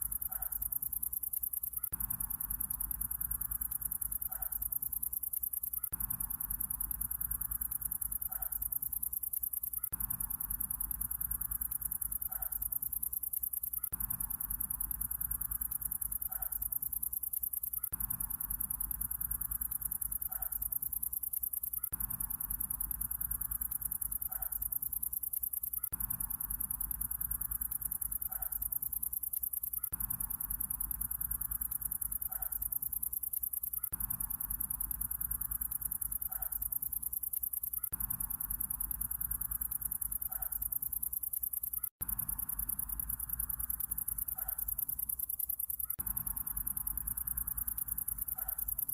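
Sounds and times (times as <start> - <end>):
cricket-like trill: 0.0 - 48.9.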